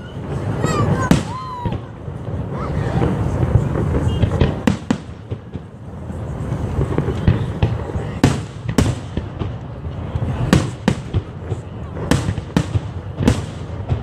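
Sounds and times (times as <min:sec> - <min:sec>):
low rumble of explosions: 0:00.0 - 0:14.0.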